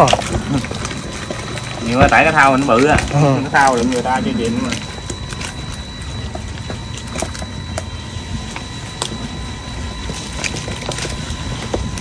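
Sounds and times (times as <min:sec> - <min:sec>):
fish flapping in a basin: 0:00.0 - 0:12.0.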